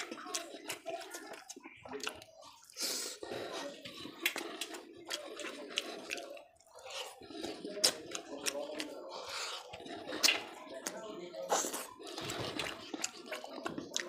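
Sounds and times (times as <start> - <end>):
wet chewing and lip smacks: 0.0 - 14.0.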